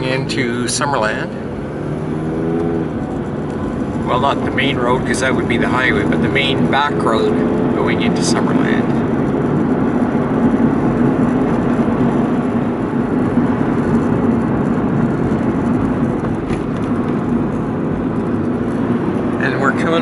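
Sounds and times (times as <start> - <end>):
road noise and engine hum: 0.0 - 20.0.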